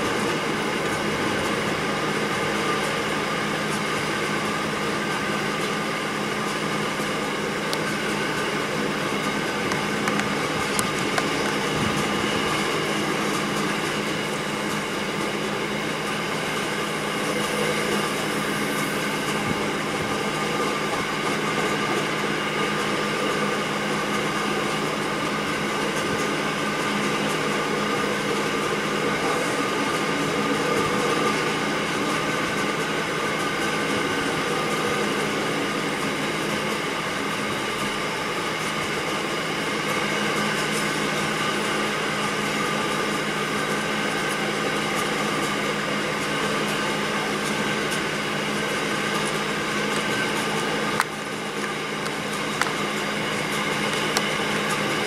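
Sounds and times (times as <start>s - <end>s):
constant hum: 0.0s - 55.0s
freight train rolling on rails: 0.0s - 55.0s.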